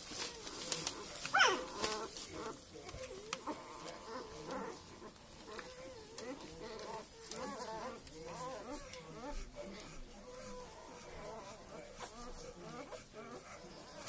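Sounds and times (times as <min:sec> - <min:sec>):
puppies squeaking and whimpering: 0:00.1 - 0:14.0.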